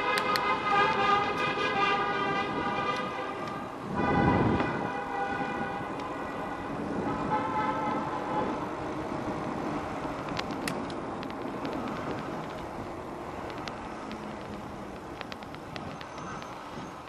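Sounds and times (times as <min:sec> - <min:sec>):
street traffic rushing: 0:00.0 - 0:17.0.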